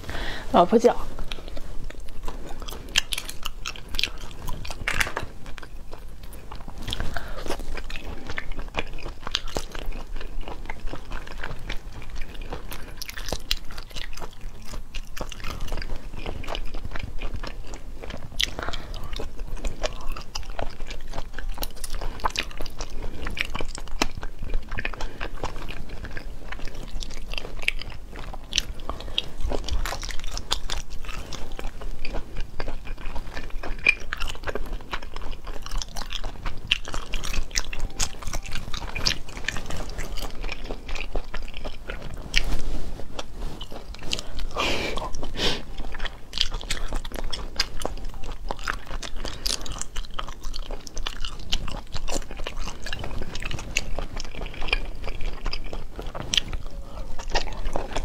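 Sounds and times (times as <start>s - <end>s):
woman chewing food: 0.0s - 58.0s.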